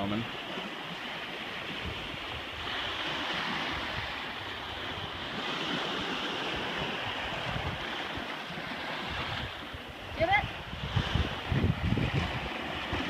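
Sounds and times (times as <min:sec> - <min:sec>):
waves on pebble beach: 0:00.0 - 0:13.0
wind buffeting microphone: 0:00.0 - 0:13.0.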